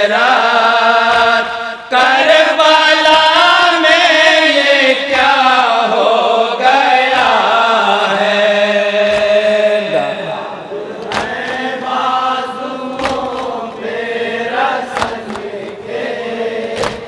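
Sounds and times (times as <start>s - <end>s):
men chanting into microphones: 0.0s - 17.0s.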